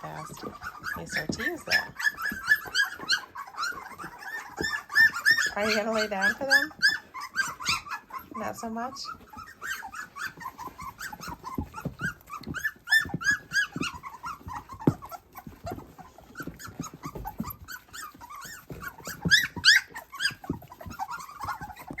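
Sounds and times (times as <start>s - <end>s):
puppies squeaking and whining: 0.0s - 22.0s.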